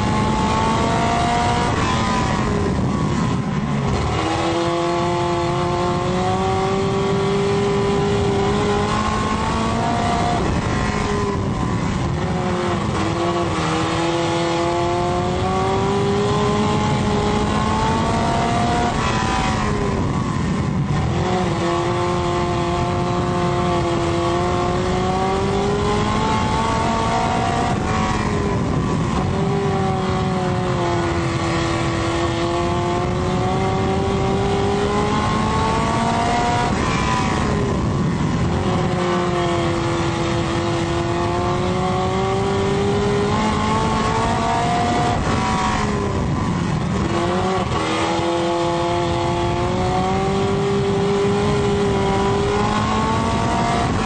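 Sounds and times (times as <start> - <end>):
race car engine revving: 0.0 - 54.0
road and dirt noise: 0.0 - 54.0.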